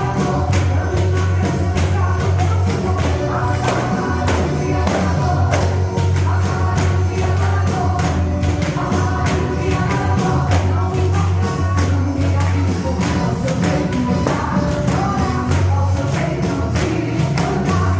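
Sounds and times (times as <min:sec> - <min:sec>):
gospel music: 0:00.0 - 0:17.9
heavy bass line: 0:00.0 - 0:17.9
tambourine jingles: 0:00.0 - 0:17.9.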